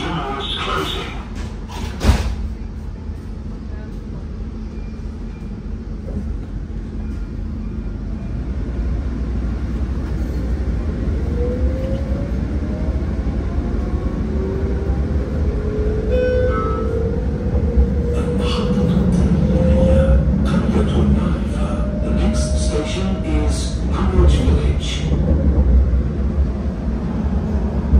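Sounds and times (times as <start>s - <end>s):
tram rumble: 0.0s - 27.9s.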